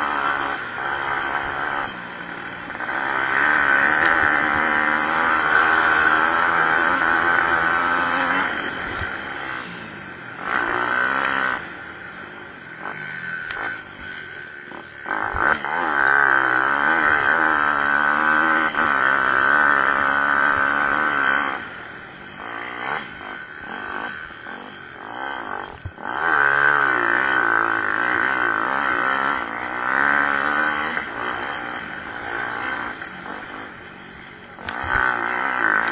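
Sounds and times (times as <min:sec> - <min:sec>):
pit bike engines revving: 0:00.0 - 0:35.9.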